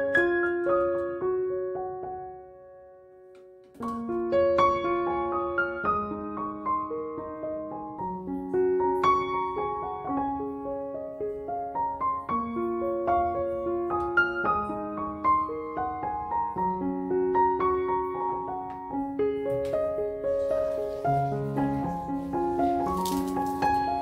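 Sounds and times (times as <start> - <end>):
solo piano: 0.0 - 24.0.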